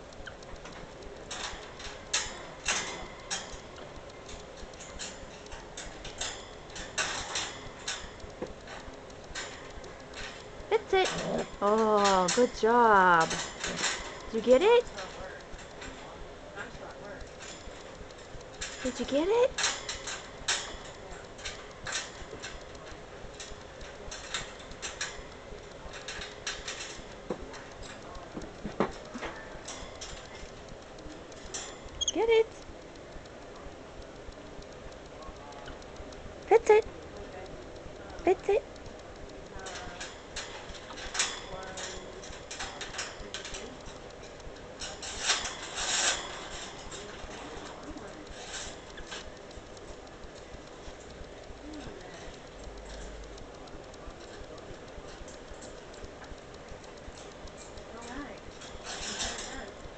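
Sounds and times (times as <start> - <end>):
metal clip rattling on cage bars: 0.1 - 59.9.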